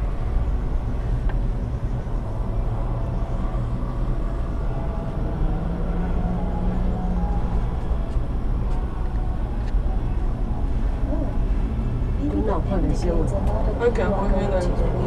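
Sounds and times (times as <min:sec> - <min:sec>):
cable car cabin rumble: 0:00.0 - 0:15.0
low drone: 0:00.0 - 0:15.0.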